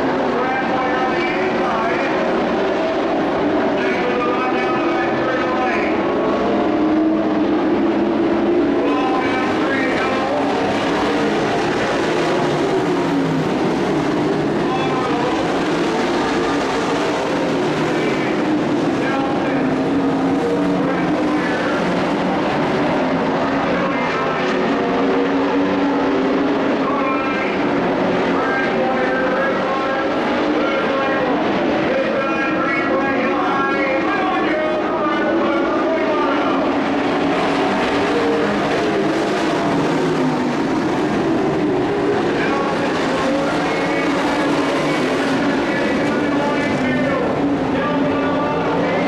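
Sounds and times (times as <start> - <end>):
race truck engine drone: 0.0 - 49.0.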